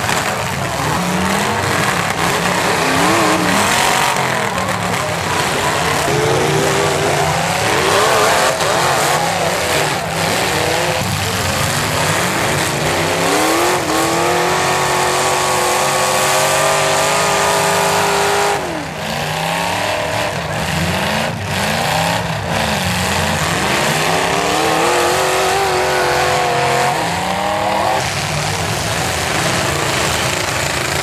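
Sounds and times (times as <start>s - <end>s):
car engines revving hard: 0.0s - 31.0s.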